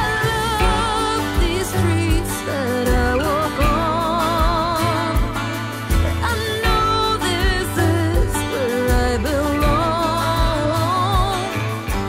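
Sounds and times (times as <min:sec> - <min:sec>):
song with singing over a beat: 0:00.0 - 0:12.0.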